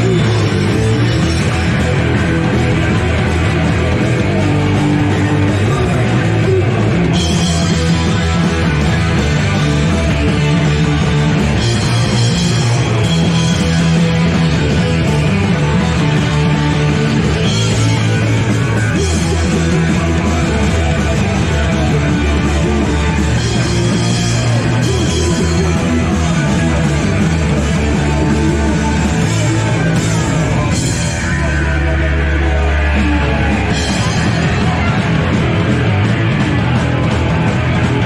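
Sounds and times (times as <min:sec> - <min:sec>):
bass guitar: 0:00.0 - 0:38.0
distorted electric guitars: 0:00.0 - 0:38.0
driving drum kit: 0:00.0 - 0:38.0.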